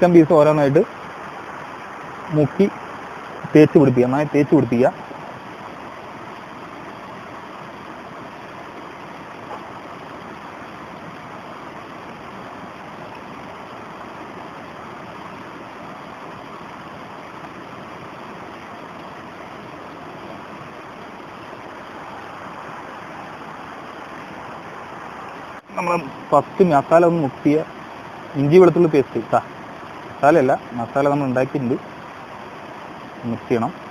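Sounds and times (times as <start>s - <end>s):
stream flowing over rocks: 0.0s - 33.9s.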